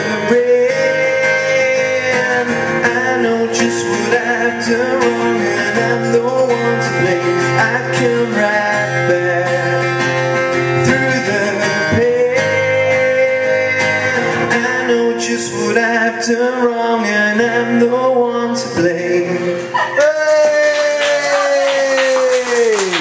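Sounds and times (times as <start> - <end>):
acoustic guitar strumming: 0.0 - 23.0
man singing: 0.0 - 23.0.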